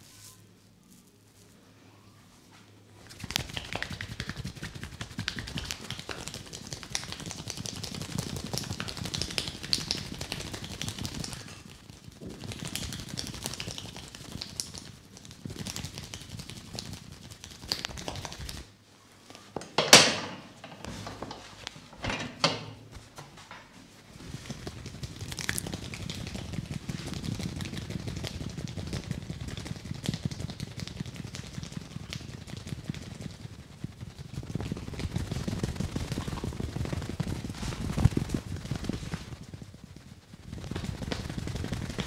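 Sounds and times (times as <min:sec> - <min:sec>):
fingers rubbing and tapping scalp: 0:03.1 - 0:19.5, 0:24.2 - 0:42.0.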